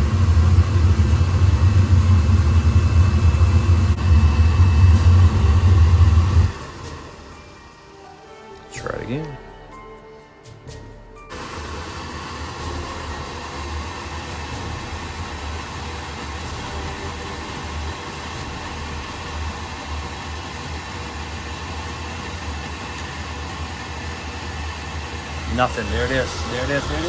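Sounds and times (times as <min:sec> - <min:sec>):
oil burner blower whooshing: 0:00.0 - 0:08.6, 0:10.7 - 0:27.0.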